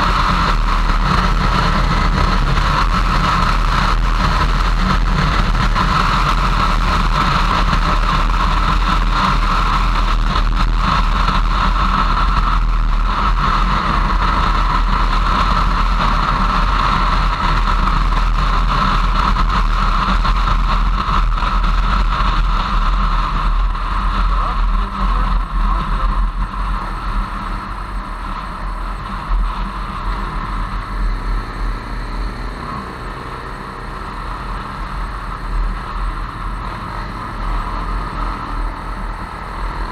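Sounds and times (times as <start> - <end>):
motorcycle engine and wind rush: 0.0 - 39.9.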